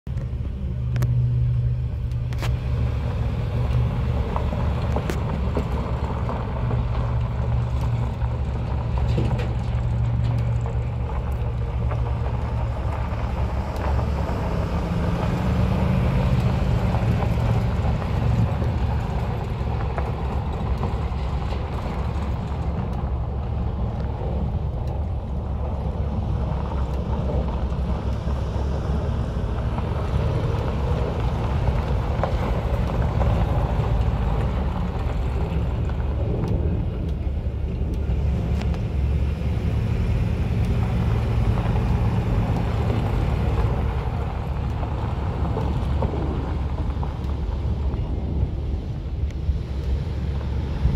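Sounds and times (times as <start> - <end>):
truck engine rumble: 0.0 - 50.9.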